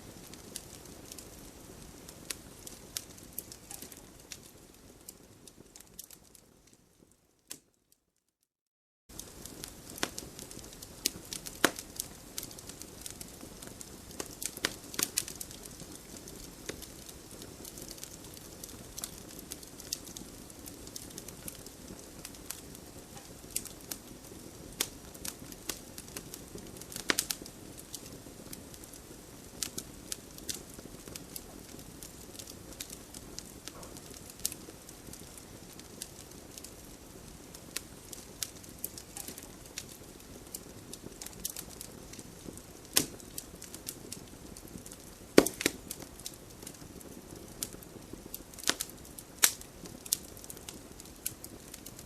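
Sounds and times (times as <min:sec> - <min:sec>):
campfire crackling and popping: 0:00.0 - 0:07.8, 0:09.1 - 0:52.0.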